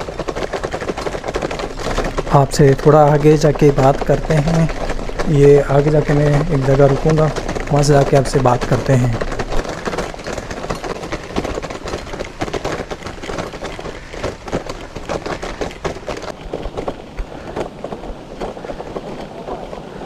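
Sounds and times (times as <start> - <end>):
bicycle rattling on bumpy trail: 0.0 - 20.0.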